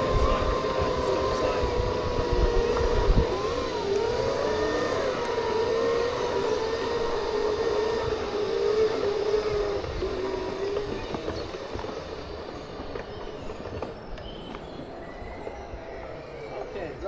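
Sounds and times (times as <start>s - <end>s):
electric drive whining: 0.0s - 17.0s.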